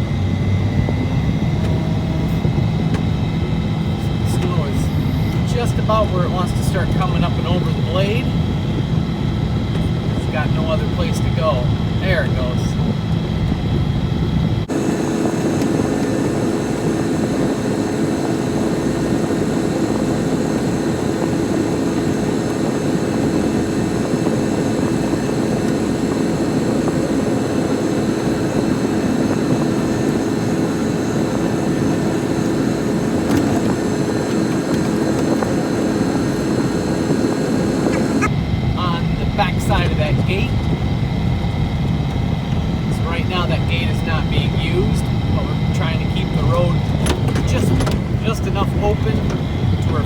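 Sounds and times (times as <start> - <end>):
snowplow engine droning: 0.0 - 50.0.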